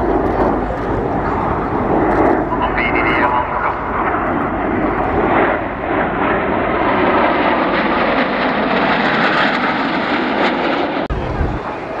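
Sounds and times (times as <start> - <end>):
jets flying past: 0.0 - 12.0.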